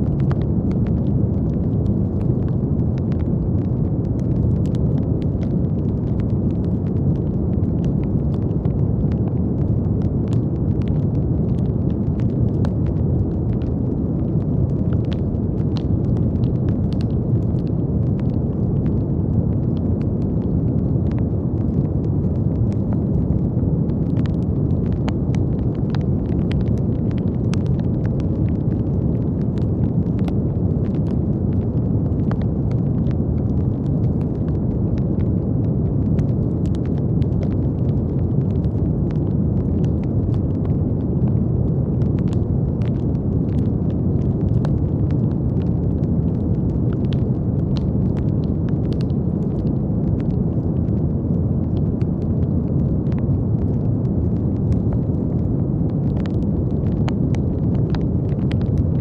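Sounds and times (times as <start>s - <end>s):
faint scattered crackles: 0.0s - 59.0s.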